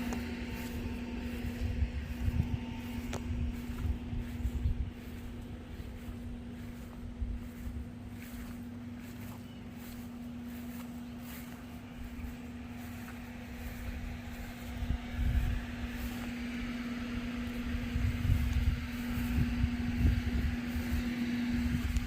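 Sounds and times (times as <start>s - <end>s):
low rumbling: 0.0s - 22.0s
steady machine hum: 0.0s - 22.0s.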